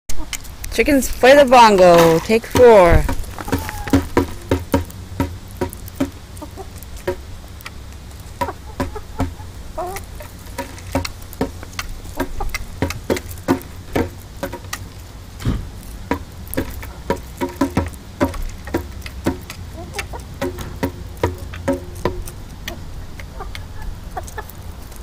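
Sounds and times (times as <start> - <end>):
hens pecking on a drumhead: 0.1 - 25.0
hen clucking: 1.0 - 25.0.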